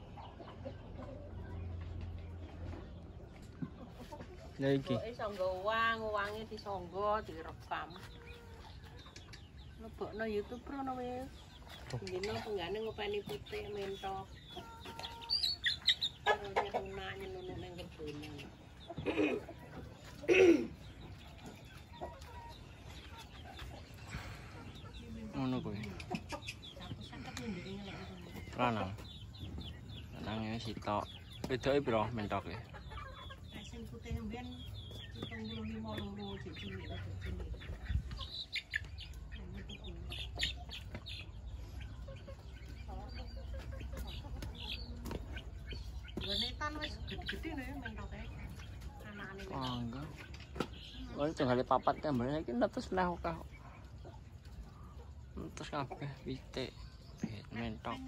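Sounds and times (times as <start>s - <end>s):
chickens clucking and calling: 0.0s - 58.0s.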